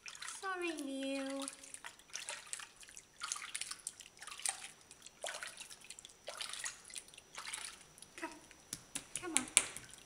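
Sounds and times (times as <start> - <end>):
water splashing in metal sink: 0.0 - 8.1.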